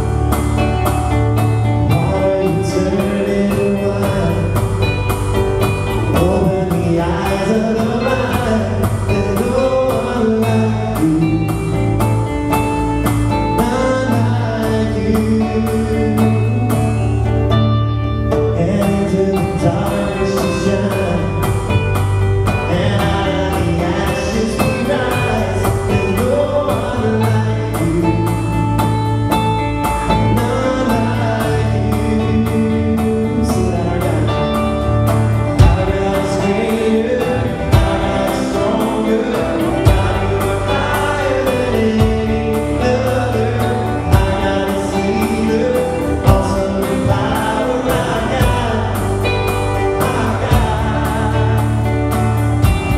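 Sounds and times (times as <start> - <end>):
worship band playing: 0.0 - 52.9
men singing: 1.7 - 17.2, 18.4 - 52.9.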